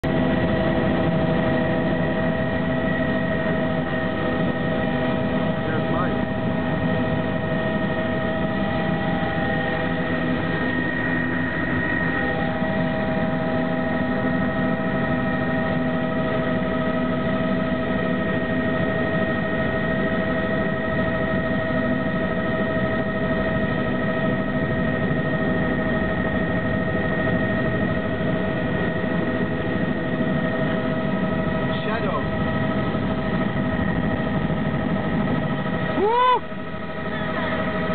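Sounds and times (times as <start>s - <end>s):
helicopter engine and rotor: 0.0s - 37.9s.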